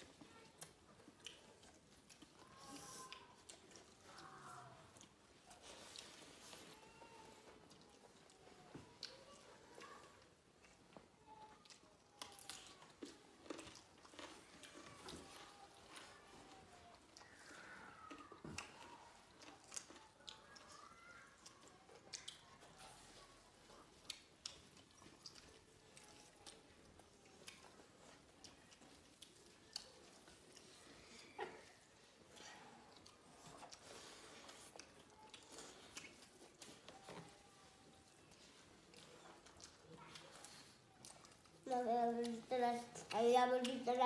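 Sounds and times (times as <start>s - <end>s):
people chewing: 0.0s - 44.0s.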